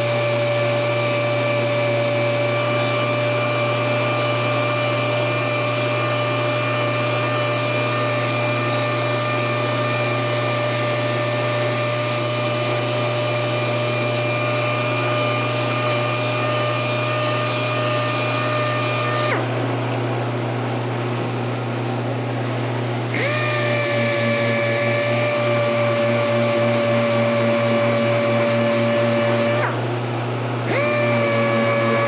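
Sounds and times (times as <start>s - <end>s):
pneumatic sander whining: 0.0s - 19.6s, 23.1s - 29.9s, 30.6s - 32.0s.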